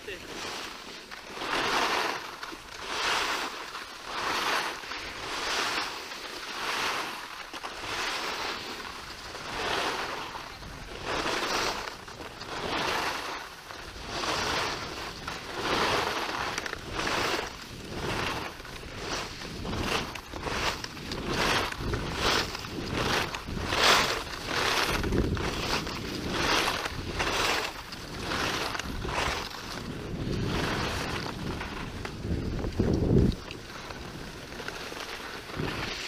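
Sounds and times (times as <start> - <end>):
skis scraping over snow: 0.0 - 36.0.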